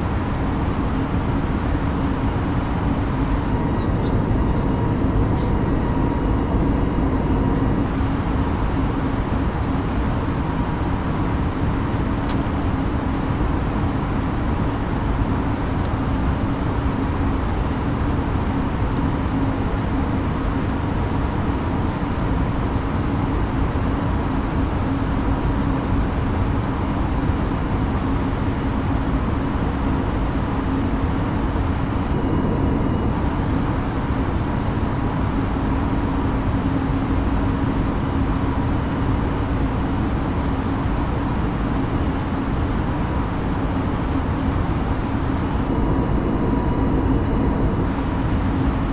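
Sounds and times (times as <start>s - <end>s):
airliner cabin engine and airflow noise: 0.0s - 48.9s
steady low hum: 0.0s - 48.9s.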